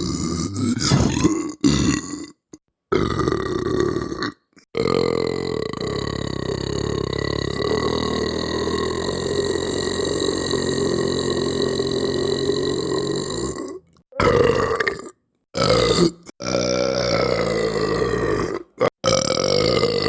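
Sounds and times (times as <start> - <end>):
person belching: 0.0 - 20.0.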